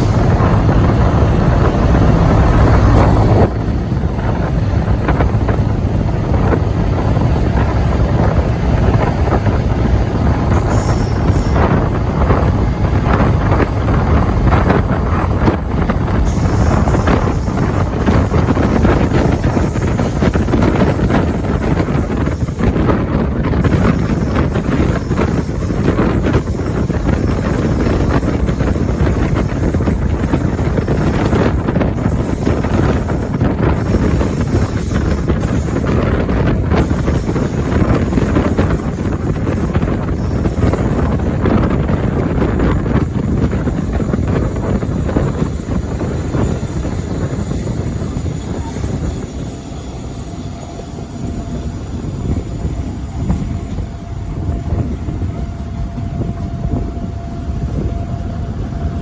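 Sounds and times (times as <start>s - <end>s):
diesel locomotive engine running: 0.0s - 59.0s
wind buffeting microphone: 0.0s - 59.0s.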